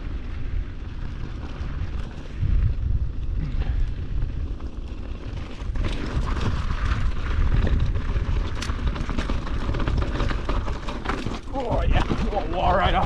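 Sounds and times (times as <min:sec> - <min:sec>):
bike tyres crunching over gravel: 0:00.0 - 0:13.0
wind rumbling on microphone: 0:00.0 - 0:13.0.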